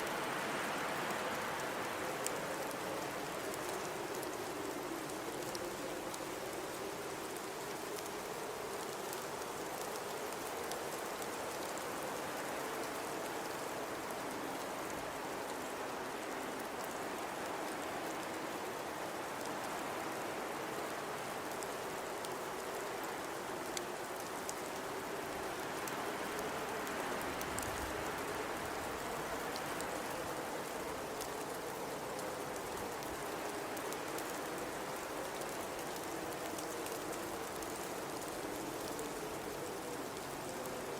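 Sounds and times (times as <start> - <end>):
blizzard wind howling: 0.0 - 40.9
hiss of wind-driven snow: 0.0 - 40.9.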